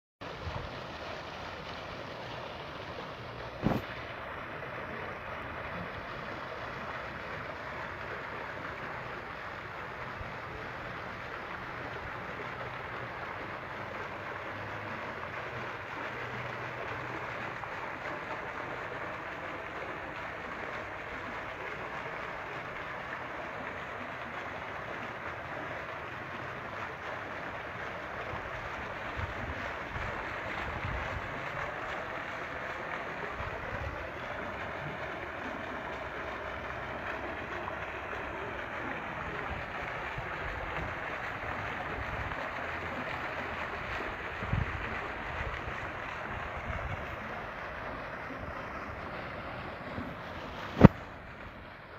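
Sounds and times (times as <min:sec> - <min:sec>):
fountain water splashing: 0:00.2 - 0:51.9.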